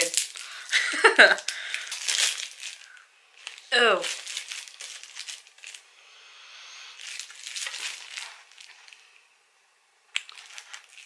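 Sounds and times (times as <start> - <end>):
plastic wrapper crinkling: 0.0 - 5.9, 6.9 - 9.1, 10.2 - 11.0.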